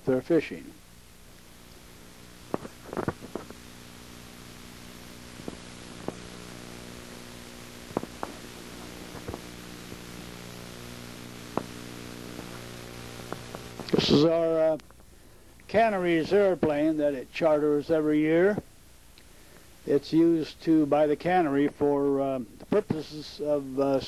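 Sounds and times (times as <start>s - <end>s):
electrical hum with hiss: 0.0s - 24.0s.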